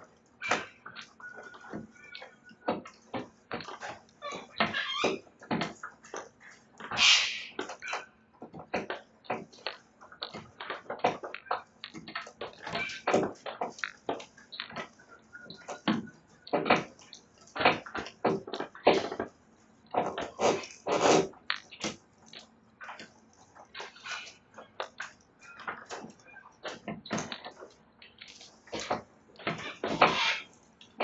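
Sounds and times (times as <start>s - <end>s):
birds gnawing splintering wood: 0.0s - 31.0s.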